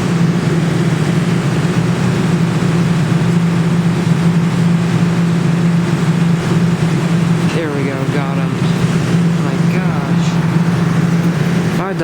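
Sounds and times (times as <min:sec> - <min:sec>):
claw machine motors whirring: 0:00.0 - 0:12.0.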